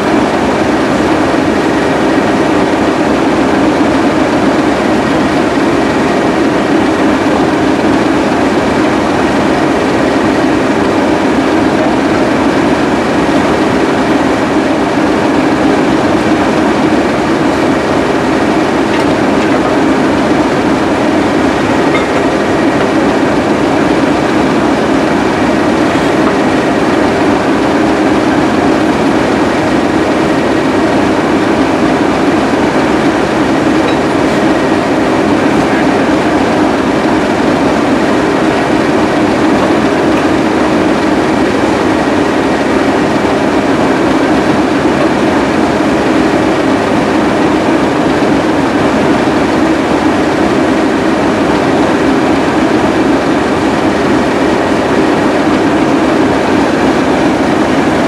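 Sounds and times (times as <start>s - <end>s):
diesel train rumbling: 0.0s - 58.0s.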